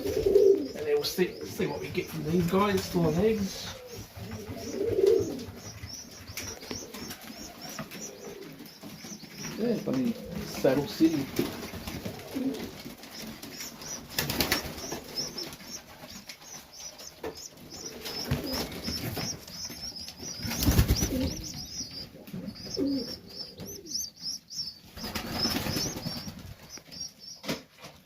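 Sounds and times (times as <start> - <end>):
pigeons cooing: 0.0 - 27.6
pigeons peeping: 0.0 - 28.0
wing flapping: 0.0 - 28.0.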